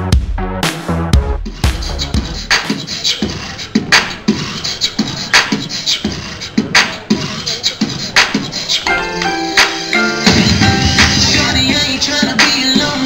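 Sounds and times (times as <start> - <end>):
hip-hop percussion beat: 0.0 - 13.0.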